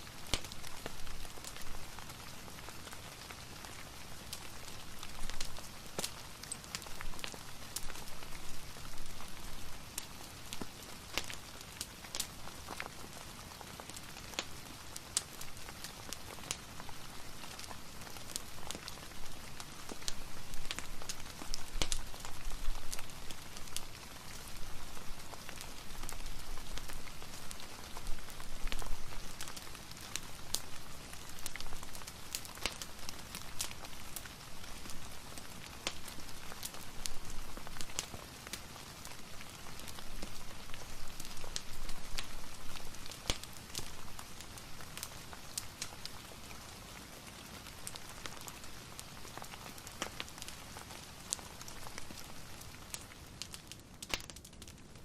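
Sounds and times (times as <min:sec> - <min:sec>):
fireplace crackling: 0:00.0 - 0:55.0.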